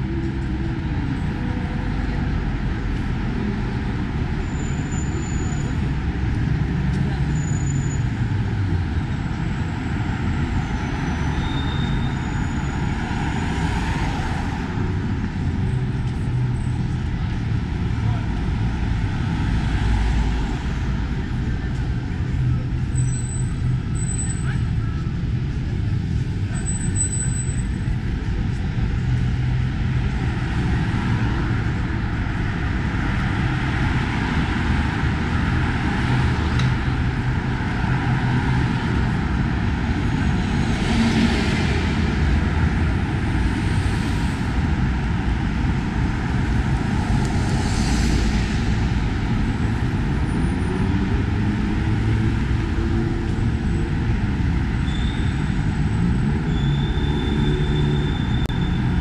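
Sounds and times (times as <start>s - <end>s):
traffic hum: 0.0s - 59.0s
vehicles passing close: 0.0s - 59.0s.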